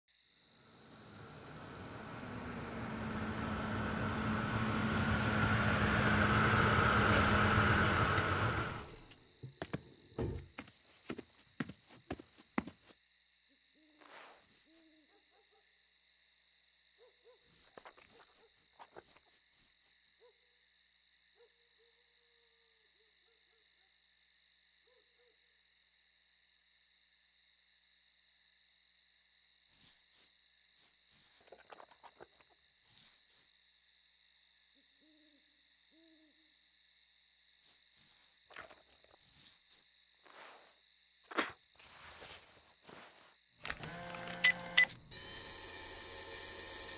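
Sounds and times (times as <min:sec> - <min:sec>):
insects chirring: 0:00.1 - 0:06.8, 0:07.6 - 0:46.9.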